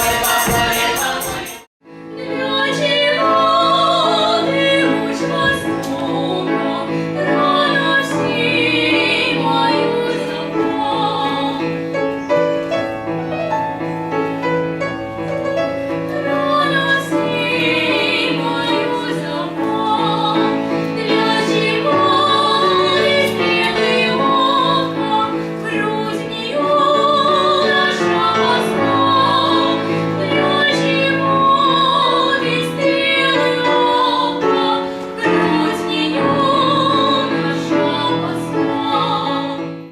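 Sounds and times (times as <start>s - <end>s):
piano accompaniment: 0.0s - 39.9s.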